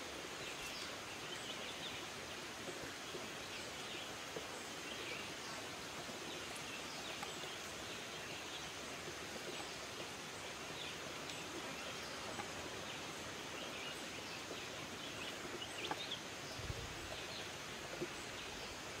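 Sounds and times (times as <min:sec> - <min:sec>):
small birds chirping faintly: 0:00.0 - 0:19.0
steady forest background rush: 0:00.0 - 0:19.0.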